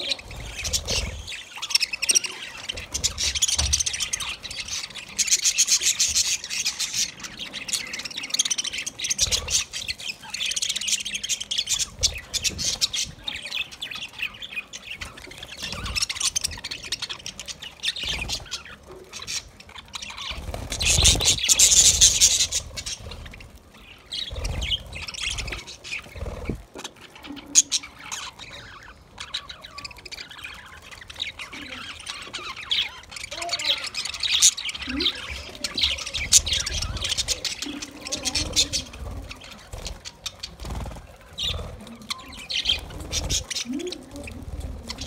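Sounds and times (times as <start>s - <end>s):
budgerigars chattering and squawking: 0.0s - 45.0s.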